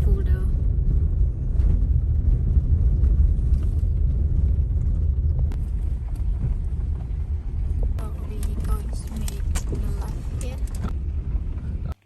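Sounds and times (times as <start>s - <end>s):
car driving rumble inside cabin: 0.0s - 12.0s.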